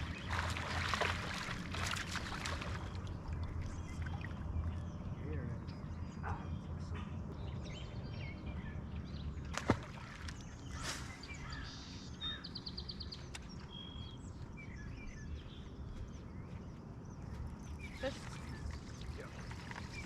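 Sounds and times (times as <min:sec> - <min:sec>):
birds chirping: 0:00.0 - 0:20.0
low hum: 0:00.0 - 0:20.0.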